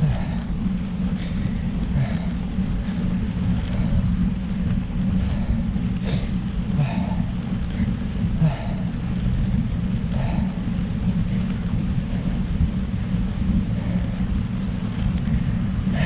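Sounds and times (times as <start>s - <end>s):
faint breaths: 0.0s - 16.0s
wind rumbling on microphone: 0.0s - 16.0s.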